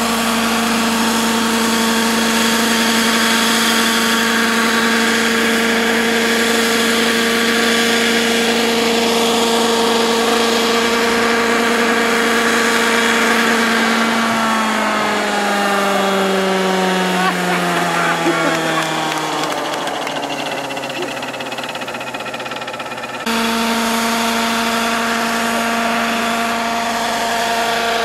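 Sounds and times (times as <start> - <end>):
model helicopter engine and rotor: 0.0 - 28.0.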